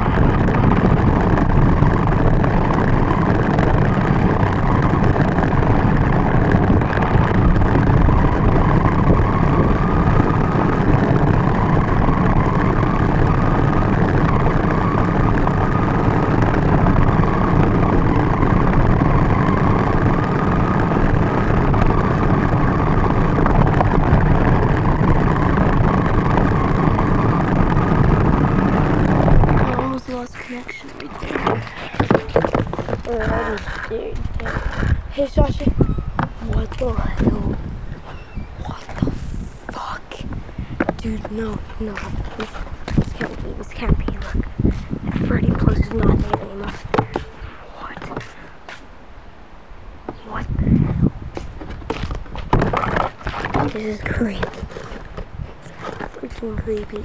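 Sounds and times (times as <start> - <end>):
rc car tyres and drivetrain rumble: 0.0 - 49.2, 49.8 - 57.0
faint electric motor whine: 0.0 - 50.3.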